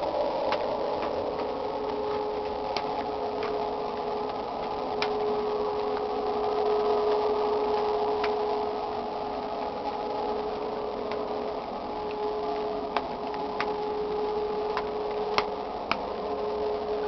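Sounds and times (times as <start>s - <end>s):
steady droning hum: 0.0s - 17.0s.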